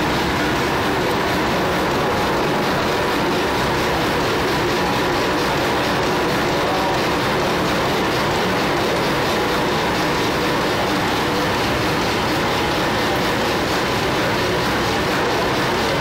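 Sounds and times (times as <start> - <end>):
diesel engine clattering: 0.0 - 16.0.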